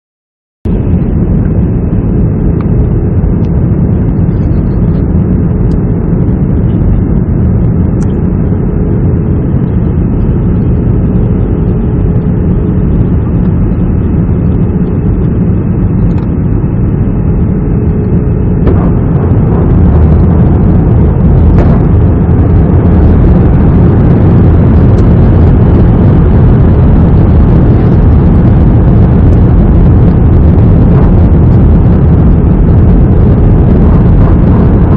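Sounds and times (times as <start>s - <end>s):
jet engine roar: 0.7s - 34.9s.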